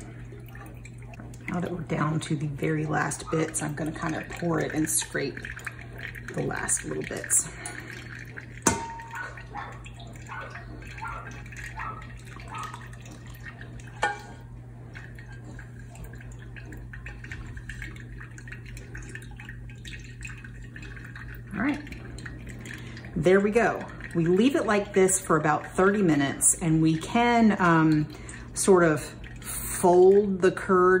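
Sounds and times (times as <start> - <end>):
liquid dripping and trickling: 0.0 - 31.0
steady low hum: 0.0 - 31.0.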